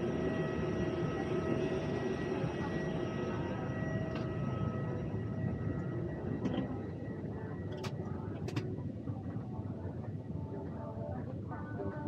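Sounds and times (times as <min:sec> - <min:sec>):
constant whining tones: 0:00.0 - 0:12.0.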